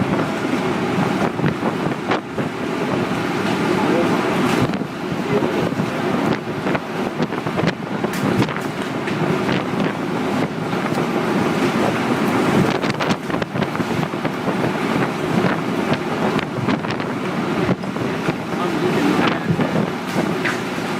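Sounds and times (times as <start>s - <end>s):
strong wind rushing: 0.0s - 20.9s.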